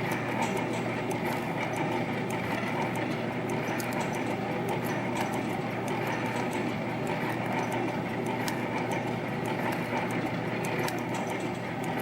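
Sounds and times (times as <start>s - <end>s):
machine clattering with sharp ticks: 0.0s - 12.0s.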